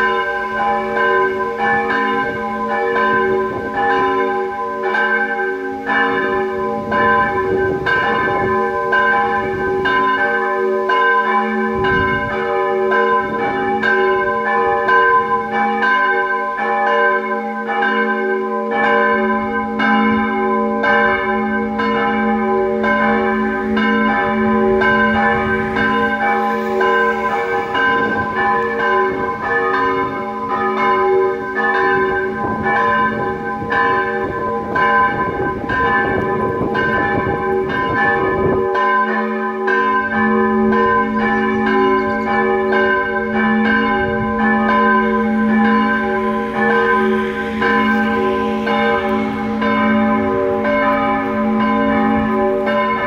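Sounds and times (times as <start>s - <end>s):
church bells pealing: 0.0s - 53.0s.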